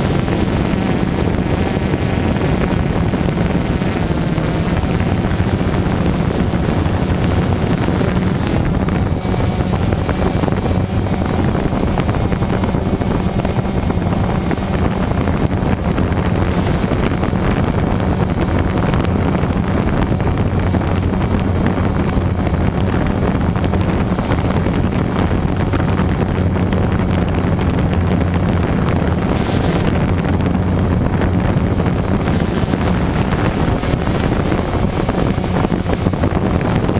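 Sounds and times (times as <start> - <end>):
drone propellers humming: 0.0 - 36.9
wind noise on microphone: 0.0 - 36.9.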